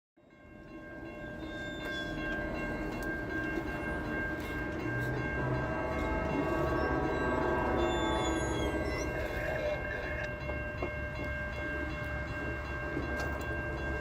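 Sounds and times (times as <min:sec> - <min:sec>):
high ringing tone: 0:00.3 - 0:14.0
train rumbling past: 0:00.3 - 0:14.0.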